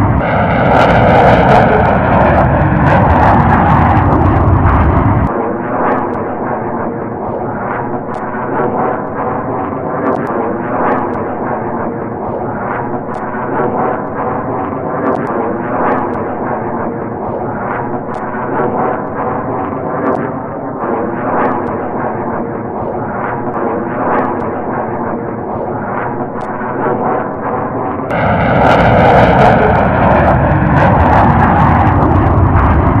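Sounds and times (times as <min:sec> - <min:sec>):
fighter jet engine rumble: 0:00.0 - 0:33.0.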